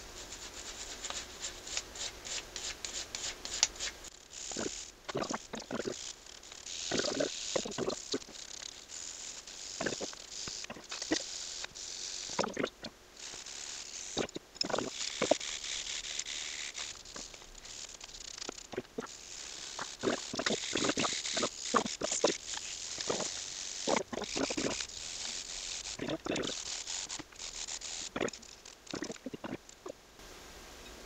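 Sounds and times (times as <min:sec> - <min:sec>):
wire brushes scrubbing metal rods: 0:00.6 - 0:29.6.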